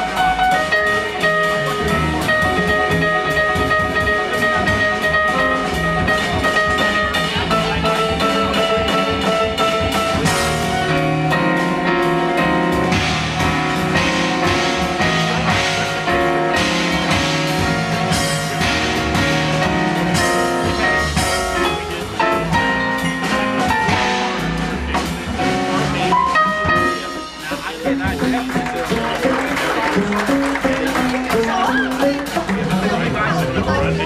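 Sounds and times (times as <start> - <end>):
jazz band playing: 0.0 - 34.0.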